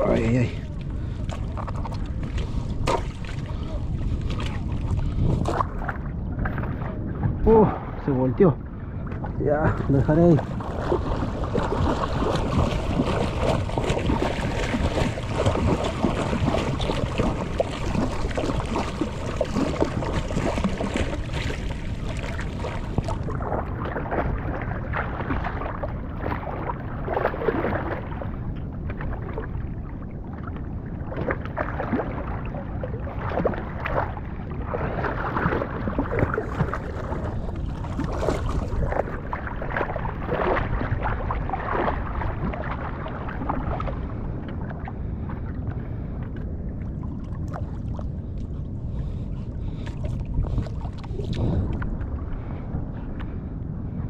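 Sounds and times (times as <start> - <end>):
sea water sloshing and splashing: 0.0 - 54.0
wind noise: 0.0 - 54.0.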